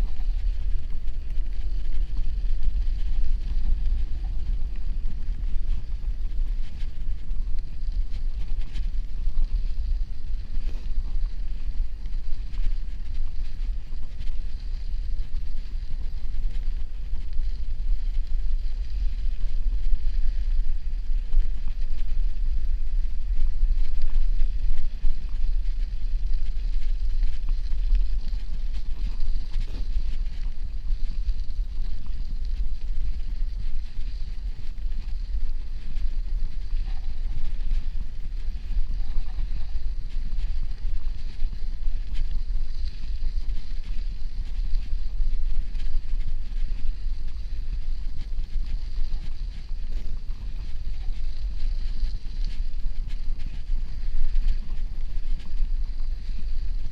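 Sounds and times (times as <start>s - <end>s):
bicycle tyres rolling on snow: 0.0s - 56.9s
wind buffeting microphone: 0.0s - 56.9s.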